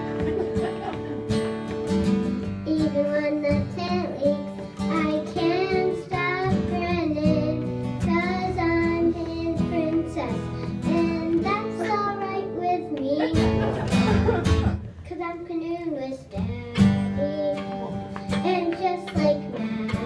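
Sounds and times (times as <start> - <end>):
acoustic guitar strummed: 0.0 - 14.8, 16.3 - 20.0
girl singing: 2.4 - 13.6, 15.0 - 20.0.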